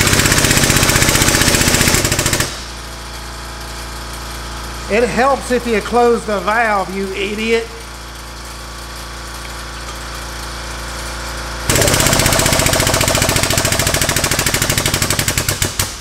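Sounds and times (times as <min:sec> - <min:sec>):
air pump chattering: 0:00.0 - 0:05.9, 0:07.3 - 0:16.0
steady hum: 0:01.8 - 0:16.0.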